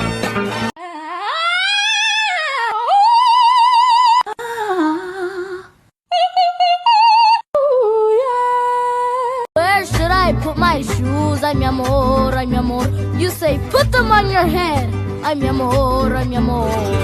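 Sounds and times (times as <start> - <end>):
person singing with vibrato: 0.8 - 17.0.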